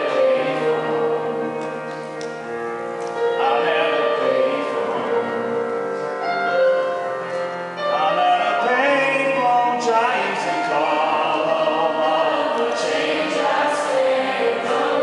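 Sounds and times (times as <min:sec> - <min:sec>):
upright piano accompaniment: 0:00.0 - 0:15.0.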